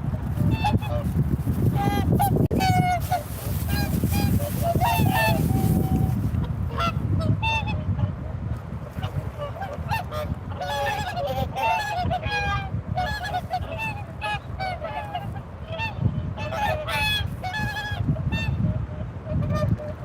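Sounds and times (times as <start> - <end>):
swans honking: 0.0 - 7.8, 9.0 - 18.0.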